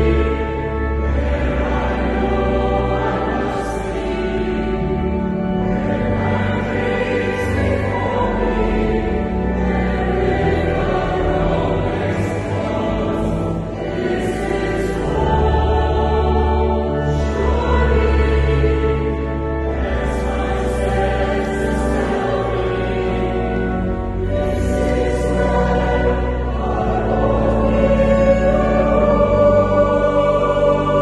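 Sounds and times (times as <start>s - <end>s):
choir singing in harmony: 0.0s - 31.0s.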